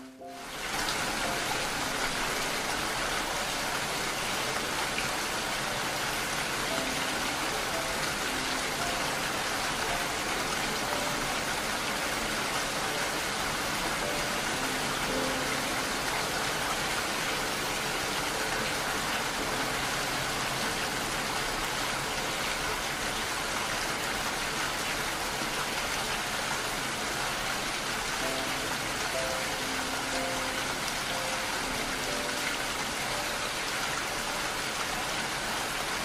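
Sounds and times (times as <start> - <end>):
faint soft musical notes: 0.0 - 36.0
steady dense rain: 0.0 - 36.0.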